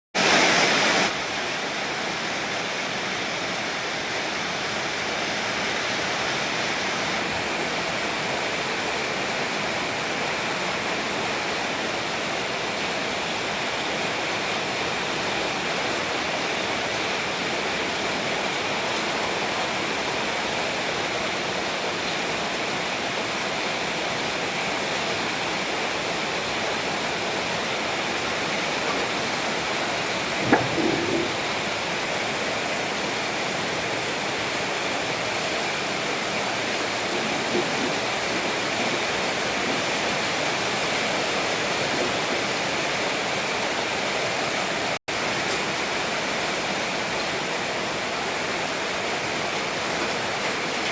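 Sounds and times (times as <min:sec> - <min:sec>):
rain pouring down: 0:00.2 - 0:50.9.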